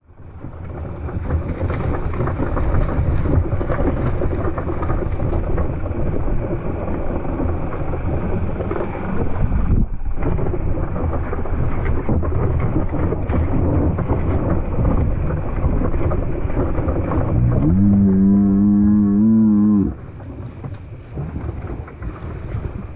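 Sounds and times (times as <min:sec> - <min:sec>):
tyres rolling over dirt and rocks: 0:00.1 - 0:22.9
bike rattling: 0:00.3 - 0:22.9
wind rushing over microphone: 0:01.4 - 0:22.9.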